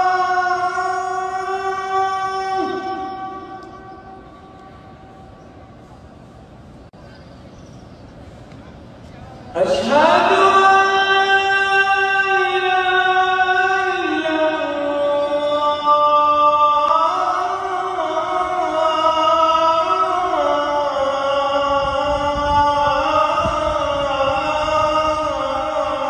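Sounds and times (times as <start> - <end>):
man chanting: 0.0 - 4.9, 9.6 - 26.0.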